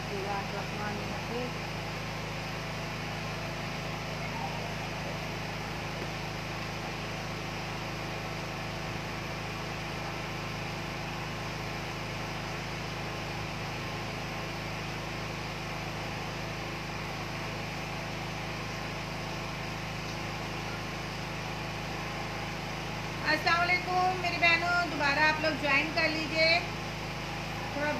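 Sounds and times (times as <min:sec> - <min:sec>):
steady hum and hiss: 0:00.0 - 0:27.9.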